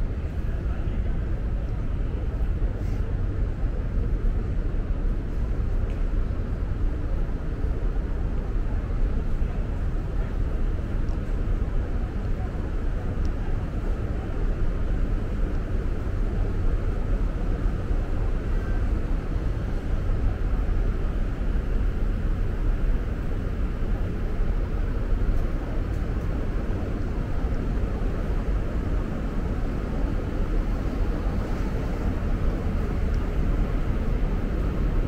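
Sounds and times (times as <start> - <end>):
low rumbling indoor background noise: 0.0 - 35.0.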